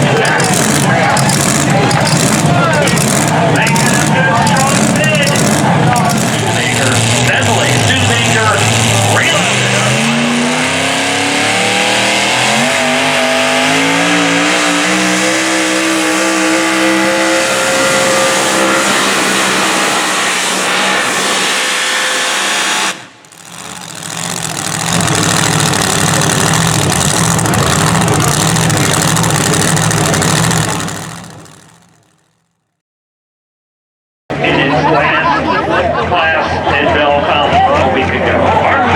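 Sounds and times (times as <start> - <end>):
truck engine at full throttle: 0.0 - 32.6.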